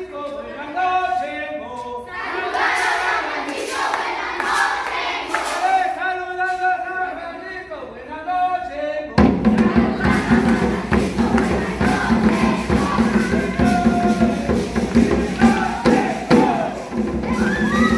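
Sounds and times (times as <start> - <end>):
group singing and chanting: 0.0 - 17.9.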